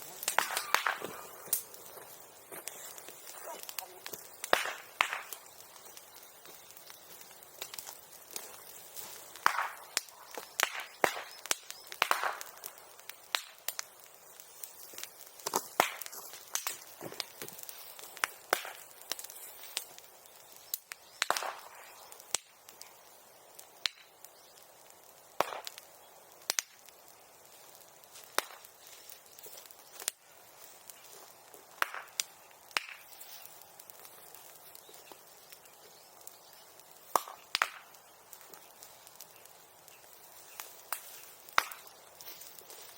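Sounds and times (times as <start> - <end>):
bonfire crackling: 0.0 - 42.9.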